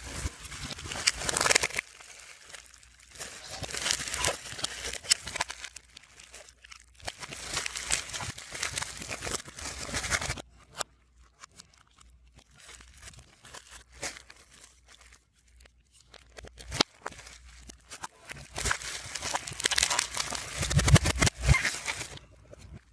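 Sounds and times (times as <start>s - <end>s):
packaging crinkling played backwards: 0.0s - 10.4s, 12.4s - 22.9s.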